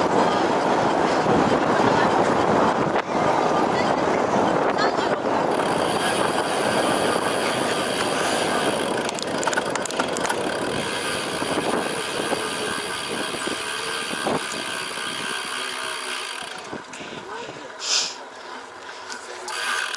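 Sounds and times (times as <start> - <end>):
bicycle rolling: 0.0 - 17.6, 18.3 - 19.9
rushing wind: 0.0 - 18.2.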